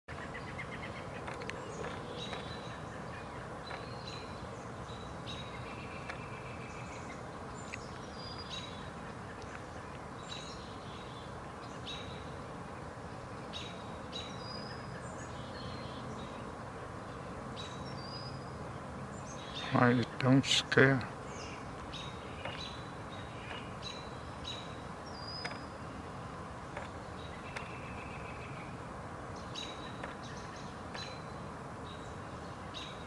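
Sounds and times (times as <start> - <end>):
outdoor background noise: 0.0 - 33.0
small birds chirping: 0.1 - 33.0.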